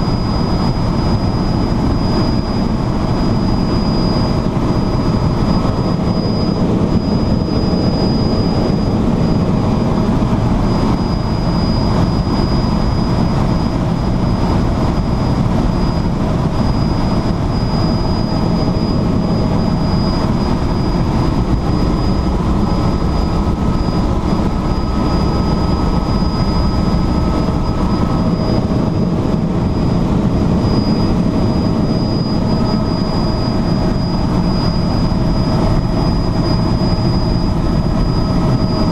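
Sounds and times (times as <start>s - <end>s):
helicopter engine and rotor drone: 0.0s - 38.9s
high whine: 0.0s - 38.9s.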